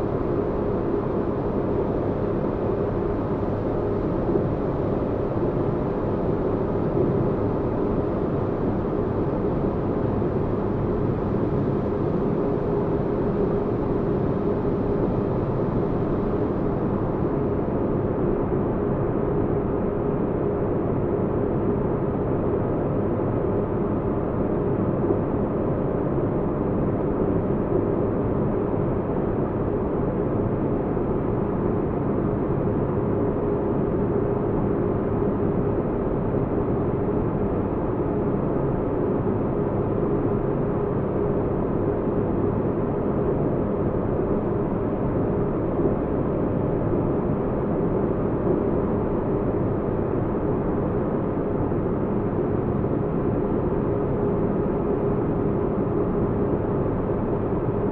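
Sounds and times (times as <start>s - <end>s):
faint steady hum: 0.0s - 57.9s
steady white noise with deep bass: 0.0s - 57.9s.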